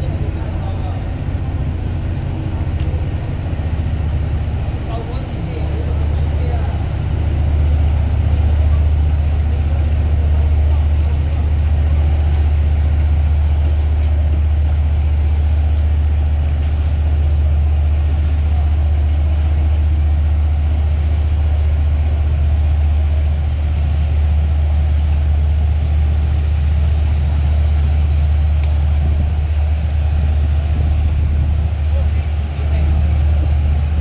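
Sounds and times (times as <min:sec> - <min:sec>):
diesel engines droning: 0:00.0 - 0:34.0.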